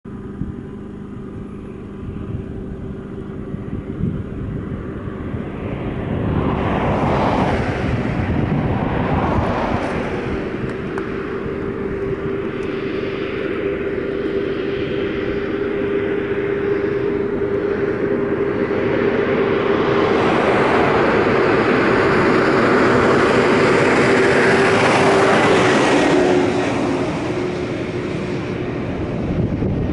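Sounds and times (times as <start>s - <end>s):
car road and engine noise: 0.0s - 29.9s.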